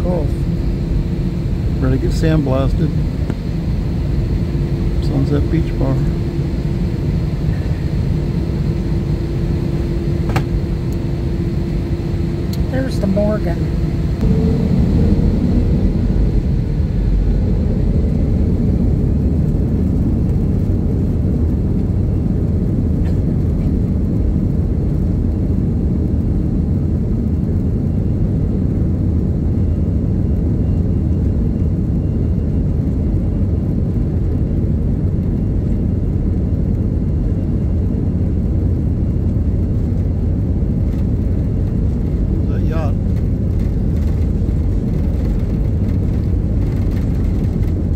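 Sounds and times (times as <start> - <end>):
jet engines deep rumble: 0.0 - 47.9.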